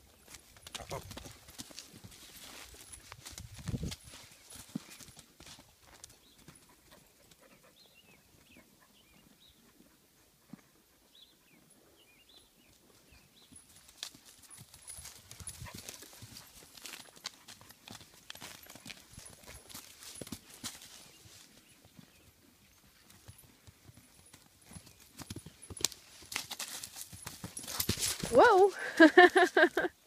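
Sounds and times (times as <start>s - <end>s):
foal hoofbeats on grass: 0.0s - 9.5s, 12.7s - 29.7s.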